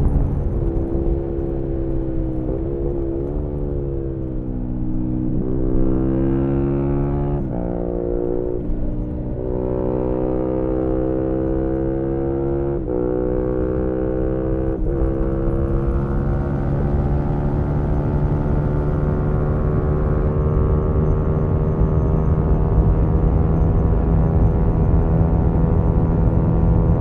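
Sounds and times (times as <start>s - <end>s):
low wind rumble: 0.0s - 27.0s
motorcycle engine revving: 0.0s - 27.0s.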